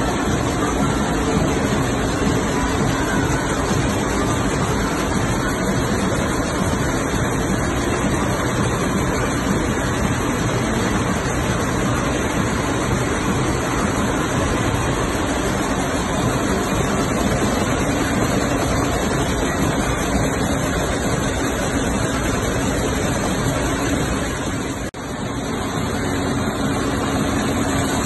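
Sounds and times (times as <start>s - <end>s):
weaving looms running: 0.0s - 28.0s.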